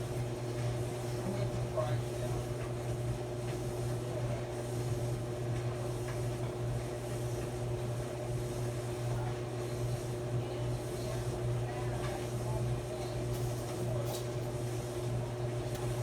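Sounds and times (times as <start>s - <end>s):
clothes dryer running: 0.0s - 16.0s.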